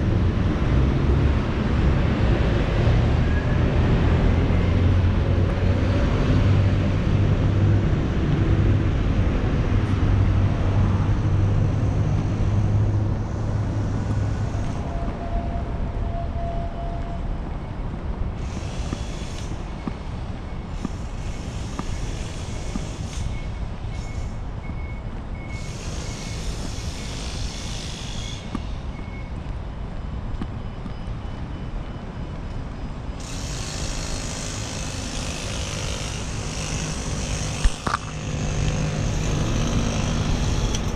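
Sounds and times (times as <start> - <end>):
distant traffic: 0.0 - 40.9
passing vehicles hissing: 0.0 - 40.9
wind: 0.0 - 40.9.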